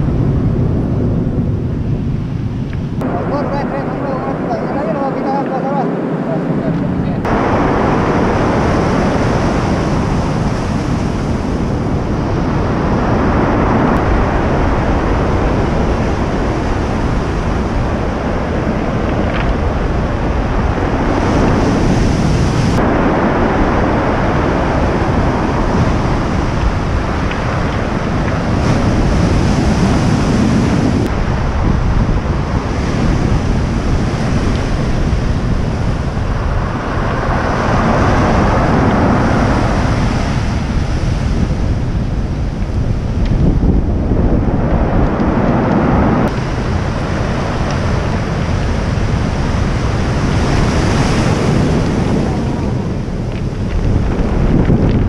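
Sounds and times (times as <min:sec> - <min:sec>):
wind buffeting microphone: 0:00.0 - 0:55.0
surf breaking on cobble beach: 0:03.0 - 0:55.0.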